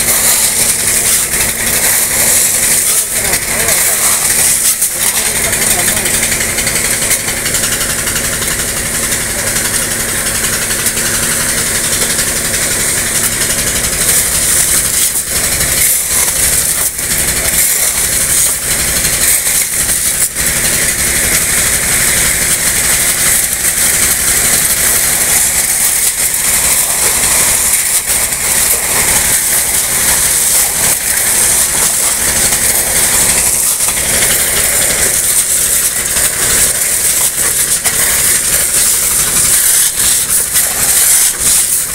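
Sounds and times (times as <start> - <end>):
machine engine humming: 0.0 - 41.9
water and gravel gushing from chute: 0.0 - 41.9.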